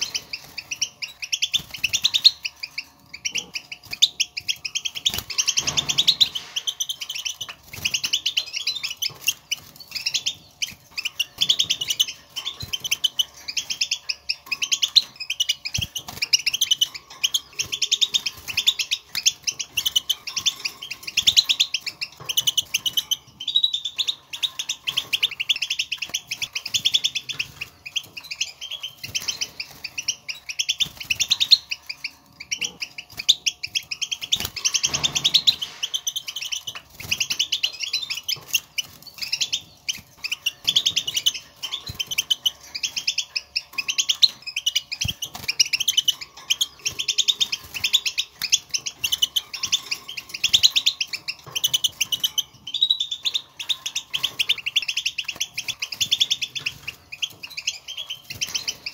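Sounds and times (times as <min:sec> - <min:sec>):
goldfinch twittering: 0:00.0 - 0:58.9.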